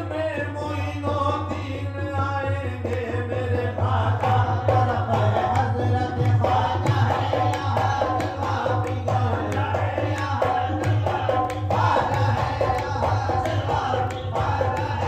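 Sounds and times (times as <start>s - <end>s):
voices singing: 0.0s - 15.0s
hand drum: 1.2s - 15.0s
rhythmic hand-clapping: 2.8s - 15.0s.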